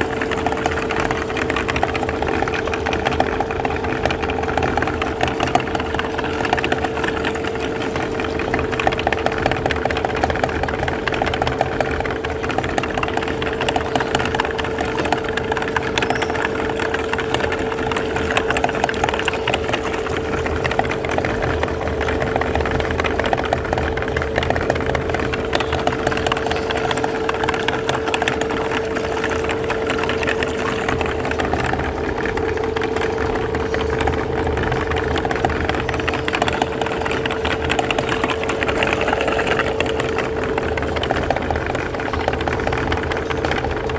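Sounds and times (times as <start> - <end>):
crackling and clicking in grinder: 0.0 - 43.9
meat grinder humming: 0.0 - 43.9.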